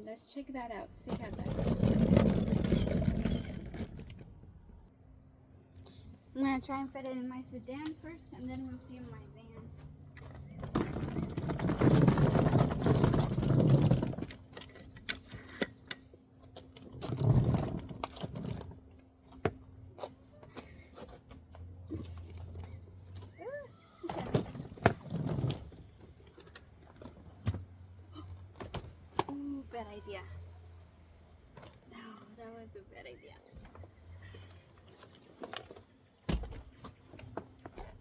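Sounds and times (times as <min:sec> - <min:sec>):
rolling case rumbling and scraping: 0:00.5 - 0:04.8, 0:07.5 - 0:32.7, 0:33.6 - 0:38.0.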